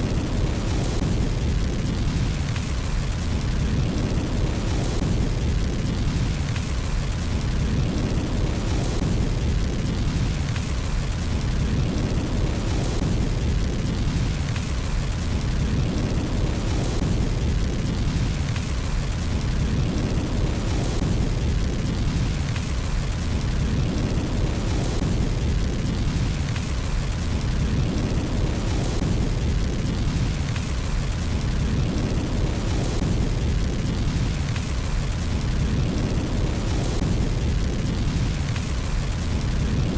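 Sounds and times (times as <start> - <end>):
fire crackling: 0.0 - 39.9
fireplace fire rumbling: 0.0 - 39.9.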